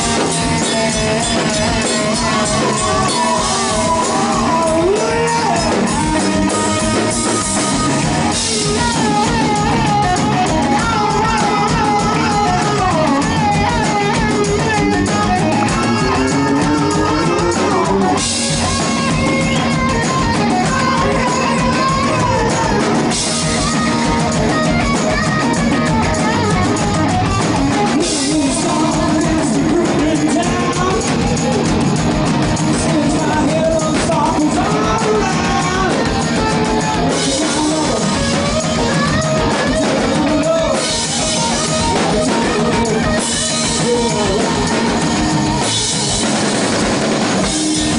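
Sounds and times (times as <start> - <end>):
drum kit with cymbal crashes: 0.0 - 47.9
electric guitar lead: 0.0 - 47.9
person singing: 0.0 - 47.9.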